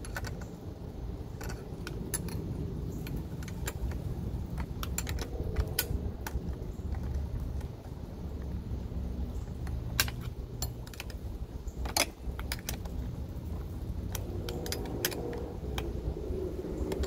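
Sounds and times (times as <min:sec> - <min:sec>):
metal parts and tools clinking: 0:00.0 - 0:08.6, 0:09.3 - 0:17.0
low background rumble: 0:00.0 - 0:17.0.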